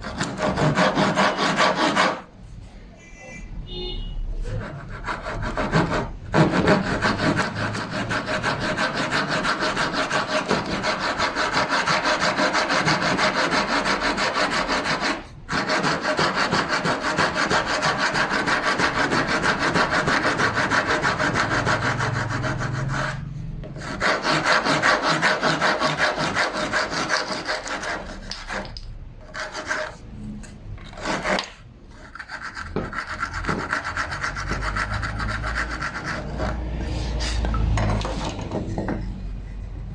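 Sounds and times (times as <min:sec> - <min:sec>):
hand saw cutting wood: 0:00.0 - 0:02.3, 0:04.4 - 0:30.0, 0:30.8 - 0:38.3.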